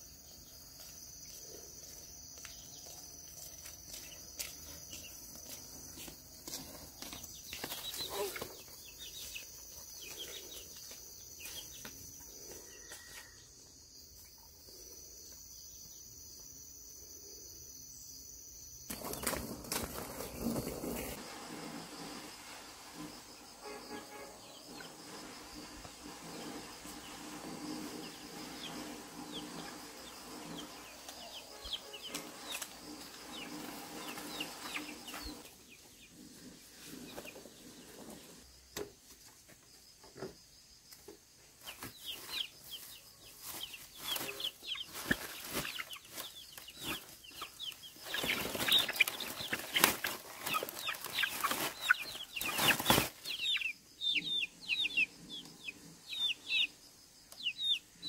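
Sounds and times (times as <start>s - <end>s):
chickens clucking and peeping: 0.0s - 17.7s, 18.9s - 58.0s.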